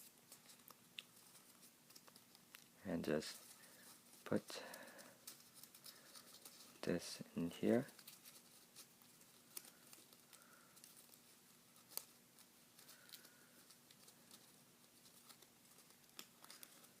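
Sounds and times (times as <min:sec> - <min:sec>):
paper ticks and rustles: 0:00.0 - 0:07.0, 0:07.6 - 0:17.0
faint steady hum: 0:00.0 - 0:17.0.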